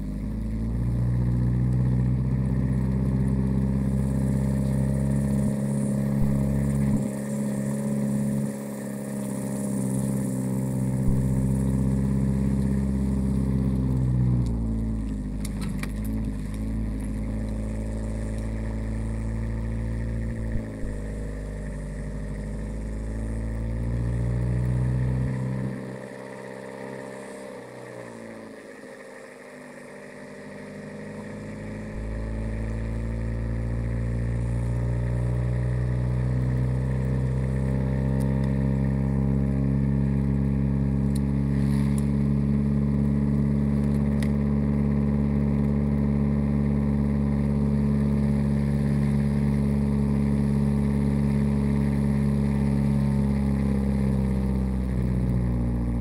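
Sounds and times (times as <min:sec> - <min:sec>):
ride-on lawn mower engine: 0:00.0 - 0:56.0.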